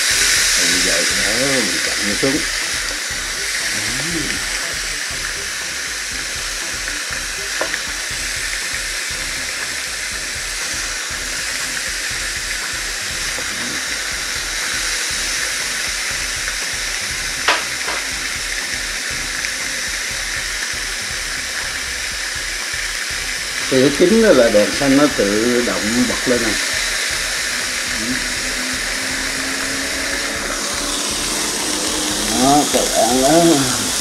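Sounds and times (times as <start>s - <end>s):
steak sizzling in a grill press: 0.0s - 34.0s.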